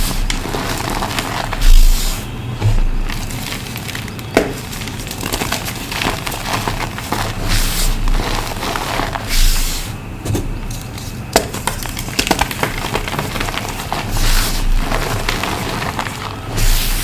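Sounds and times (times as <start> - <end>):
chalk blocks crunching: 0.0 - 17.0.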